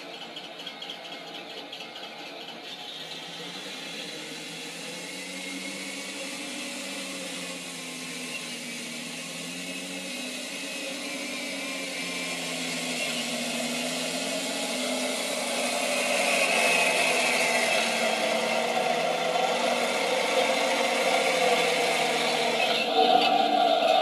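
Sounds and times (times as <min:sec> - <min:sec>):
simulated tank engine sound: 0:00.0 - 0:24.0
model drive motors whirring: 0:00.5 - 0:24.0.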